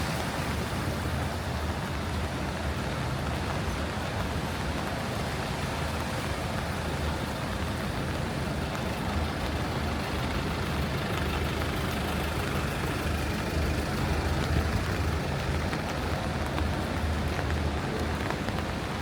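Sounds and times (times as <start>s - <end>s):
large vehicle engine rumbling: 0.0s - 19.0s
rain hiss: 0.0s - 19.0s
wet road noise: 0.0s - 19.0s.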